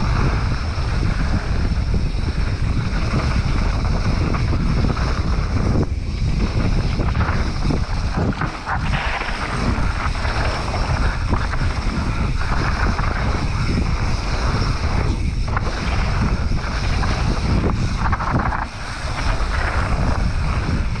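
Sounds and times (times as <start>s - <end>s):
heavy steady rumble: 0.0s - 21.0s
tyres rolling on dirt trail: 0.0s - 21.0s
wind rushing over microphone: 0.0s - 21.0s
bike knocking over bumps: 2.0s - 21.0s.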